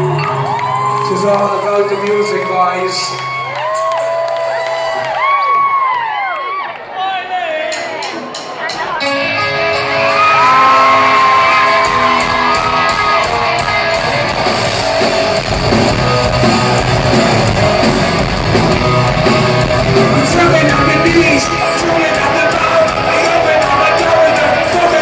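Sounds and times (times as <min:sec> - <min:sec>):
live rock band playing: 0:00.0 - 0:05.4, 0:07.7 - 0:25.0
electric guitar: 0:00.0 - 0:05.8, 0:09.0 - 0:25.0
crowd shouting: 0:00.0 - 0:25.0.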